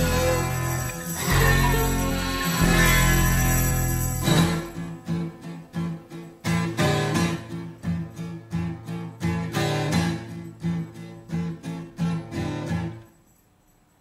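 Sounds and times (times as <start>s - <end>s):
strummed guitar: 0.0s - 13.1s.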